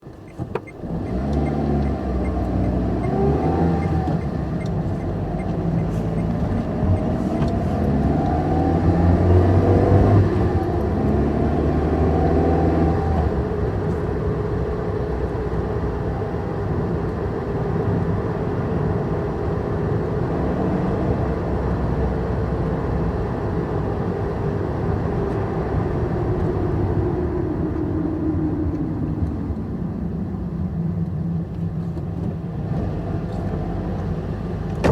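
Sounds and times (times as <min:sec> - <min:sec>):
car engine accelerating through gears: 0:00.1 - 0:34.9.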